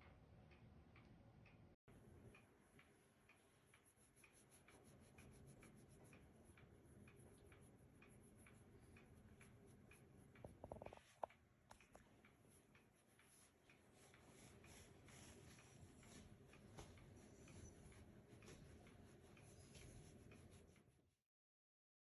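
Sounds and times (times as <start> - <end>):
faint steady ticking: 0.1 - 21.0.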